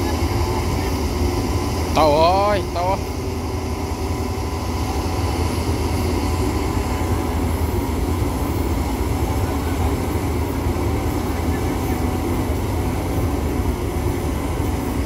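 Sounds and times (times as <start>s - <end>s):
heavy diesel engines droning: 0.0s - 15.0s.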